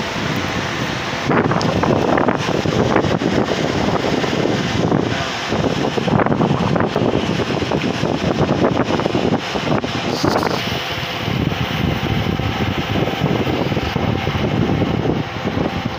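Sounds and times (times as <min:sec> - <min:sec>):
combine harvester running: 0:00.0 - 0:15.9
tractor running: 0:00.0 - 0:15.9
wind buffeting microphone: 0:00.0 - 0:15.9.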